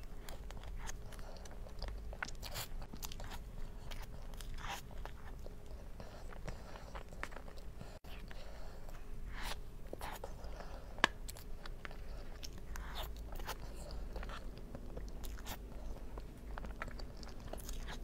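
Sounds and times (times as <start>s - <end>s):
wet chewing and mouth sounds: 0.0s - 18.0s.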